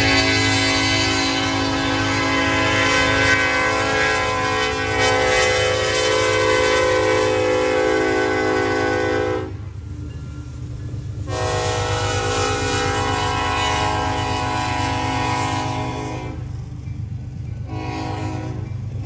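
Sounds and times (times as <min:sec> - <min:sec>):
locomotive air horn: 0:00.0 - 0:09.7, 0:11.3 - 0:16.5, 0:17.6 - 0:19.0
low train rumble: 0:00.0 - 0:19.0.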